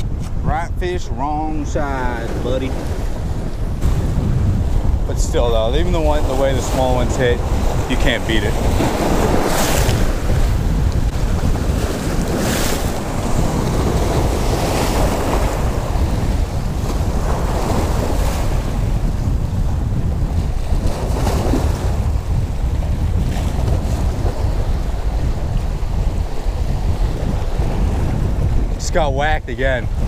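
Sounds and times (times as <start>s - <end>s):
wind buffeting microphone: 0.0s - 30.0s
waves splashing against rocks: 1.4s - 28.5s.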